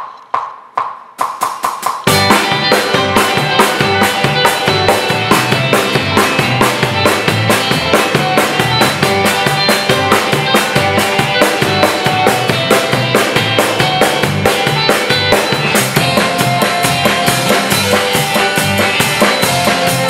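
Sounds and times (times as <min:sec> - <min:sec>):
drum kit groove: 0:00.0 - 0:20.0
full-band backing track: 0:01.5 - 0:20.0.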